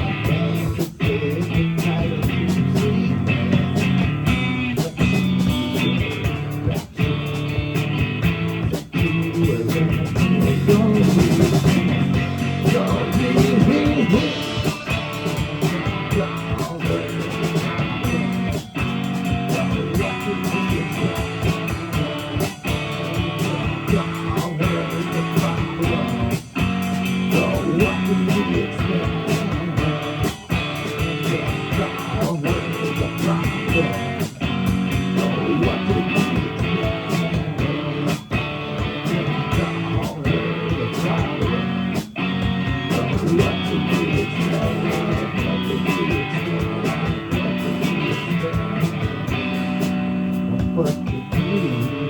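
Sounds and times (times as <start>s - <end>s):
live band playing guitar-led music: 0.0s - 52.0s.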